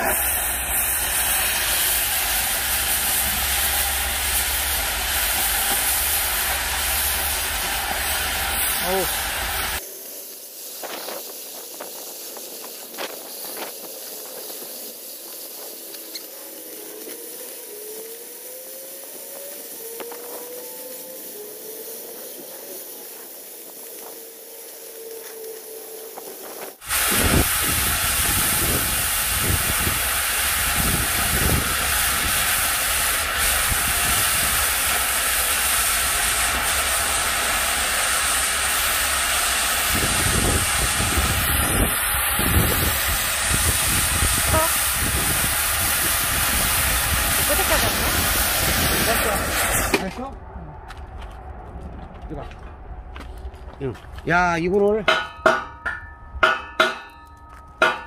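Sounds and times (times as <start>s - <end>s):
cutting torch hissing: 0.0s - 50.4s.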